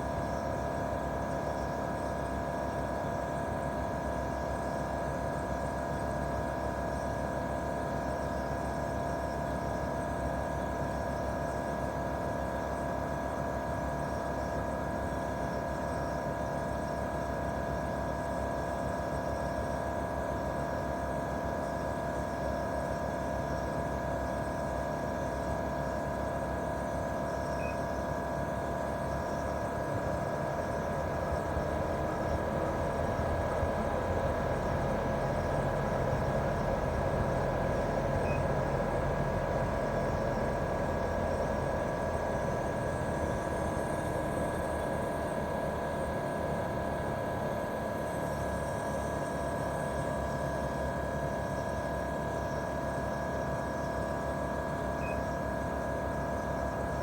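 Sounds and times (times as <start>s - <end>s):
air conditioner unit humming: 8.7s - 57.0s.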